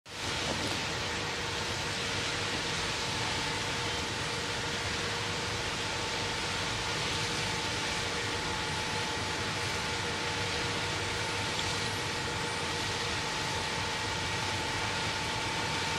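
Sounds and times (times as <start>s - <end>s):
constant two-pitch hum: 0.4s - 15.9s.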